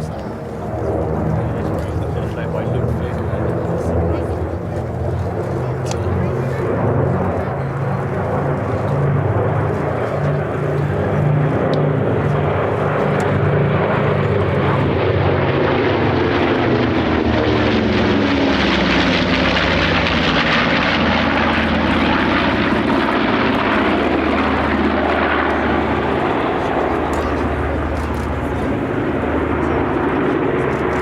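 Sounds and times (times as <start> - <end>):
piston aircraft engines droning: 0.0 - 31.0.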